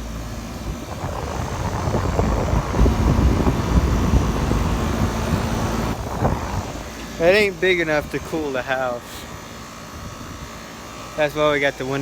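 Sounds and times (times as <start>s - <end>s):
air conditioner unit rumbling: 0.0s - 12.0s.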